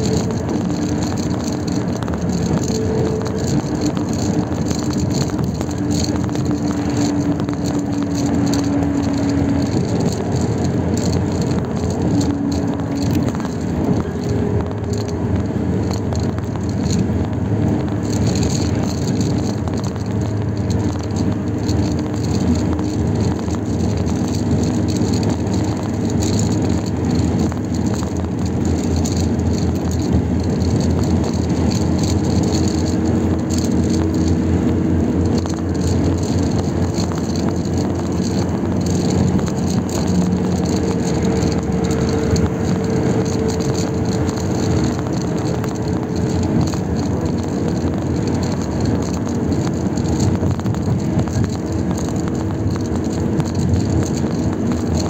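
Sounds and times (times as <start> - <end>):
vehicle road and engine noise: 0.0 - 55.0.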